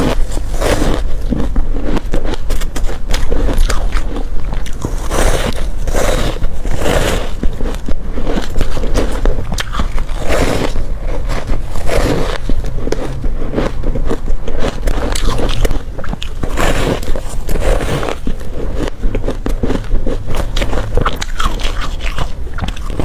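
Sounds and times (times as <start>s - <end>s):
crunching crushed ice: 0.0s - 23.0s.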